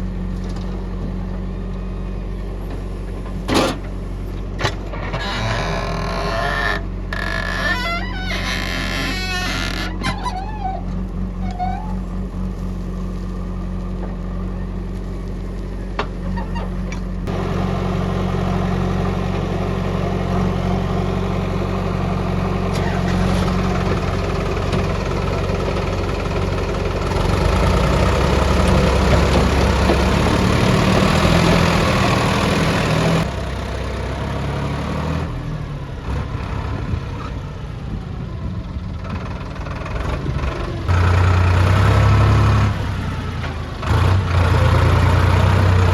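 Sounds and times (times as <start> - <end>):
heavy diesel engine working: 0.0 - 45.9.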